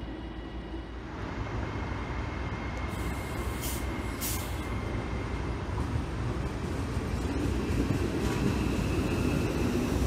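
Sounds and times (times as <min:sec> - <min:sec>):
electric train running in: 0:00.0 - 0:10.0.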